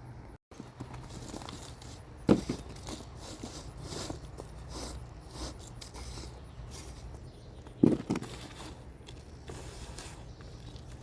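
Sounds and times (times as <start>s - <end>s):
scraping and rustling in soil: 0.5s - 11.0s.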